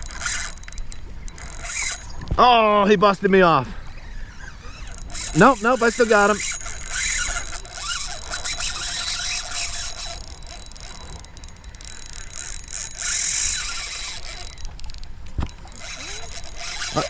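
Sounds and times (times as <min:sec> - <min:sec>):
fishing reel drag screaming: 0:00.0 - 0:02.2, 0:03.7 - 0:17.0.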